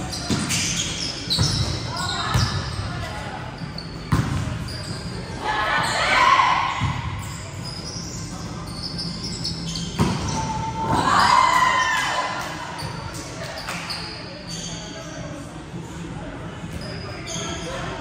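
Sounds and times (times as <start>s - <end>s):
sneakers squeaking on floor: 0.0s - 12.0s, 12.6s - 15.6s, 16.5s - 18.0s.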